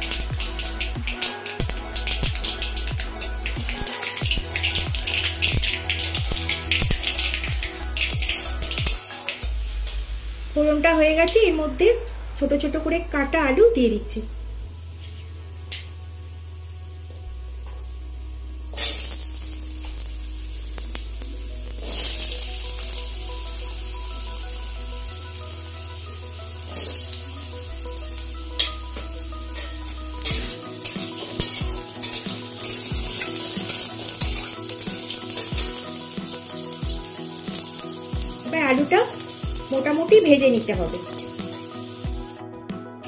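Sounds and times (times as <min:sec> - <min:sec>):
potatoes sizzling in oil: 0:00.0 - 0:14.0, 0:18.7 - 0:42.4.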